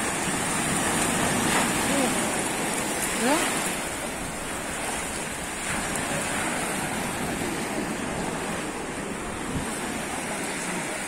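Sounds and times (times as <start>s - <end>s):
sea surf washing: 0.0s - 11.0s
wind buffeting microphone: 0.0s - 11.0s.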